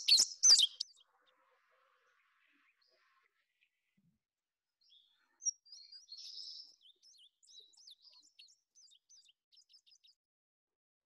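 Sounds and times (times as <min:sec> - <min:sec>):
songbird singing: 0:00.0 - 0:03.9, 0:04.8 - 0:10.2.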